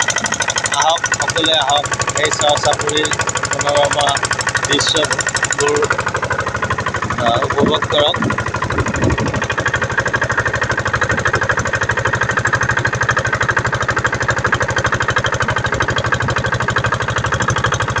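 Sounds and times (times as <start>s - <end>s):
motorboat engine knocking: 0.0s - 18.0s.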